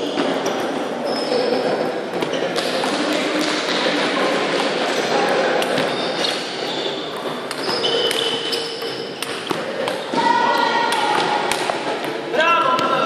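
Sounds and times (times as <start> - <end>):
murmur of sports hall: 0.0 - 13.0.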